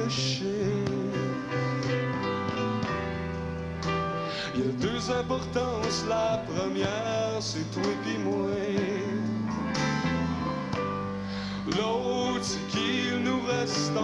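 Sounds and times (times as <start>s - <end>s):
acoustic guitars: 0.0s - 14.0s
sustained bass notes: 0.0s - 14.0s.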